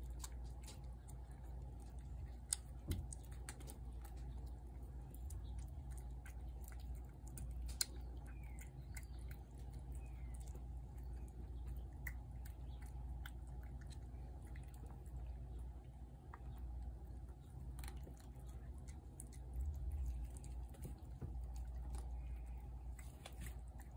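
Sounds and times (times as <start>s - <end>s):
cats chewing wet food: 0.0s - 23.9s.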